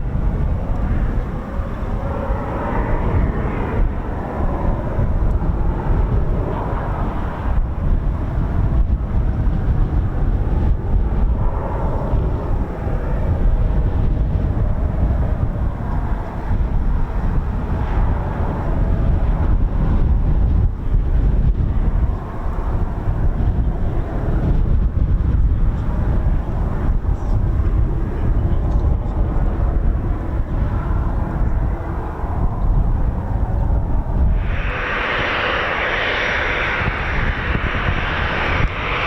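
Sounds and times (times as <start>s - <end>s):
jet engines departing: 0.0s - 39.0s
wind buffeting microphone: 0.0s - 39.0s.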